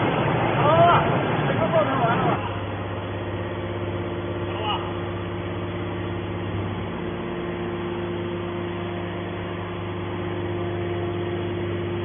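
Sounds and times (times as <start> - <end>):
hydraulic motor humming: 0.0 - 12.0.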